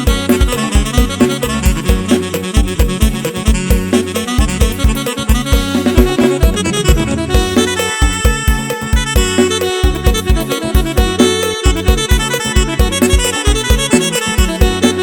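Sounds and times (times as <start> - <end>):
electronic keyboard dance music: 0.0 - 15.0
heavy kick-drum beat: 0.0 - 15.0.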